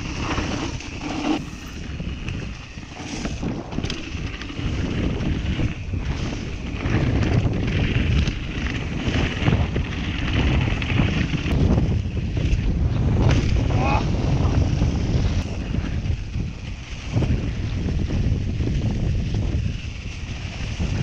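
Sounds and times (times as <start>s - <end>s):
bike tyres rumbling: 0.0s - 21.0s
wind buffeting microphone: 0.0s - 21.0s.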